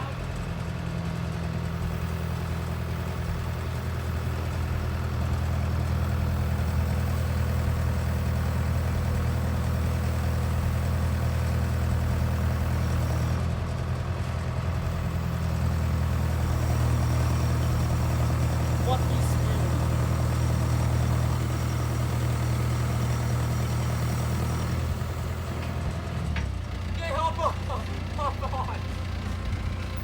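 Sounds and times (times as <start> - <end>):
heavy equipment engine droning: 0.0 - 30.0.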